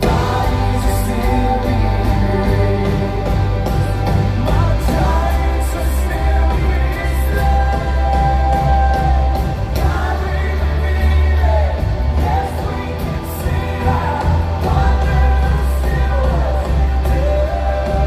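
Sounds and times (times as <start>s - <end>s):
drums: 0.0s - 18.0s
heavy bass: 0.0s - 18.0s
person singing: 0.0s - 18.0s
worship band playing: 0.0s - 18.0s.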